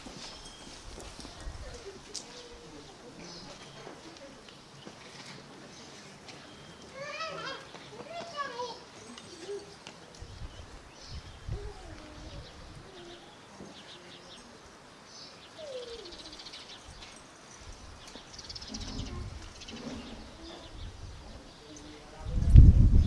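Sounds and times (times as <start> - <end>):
small birds chirping: 0.1 - 22.3.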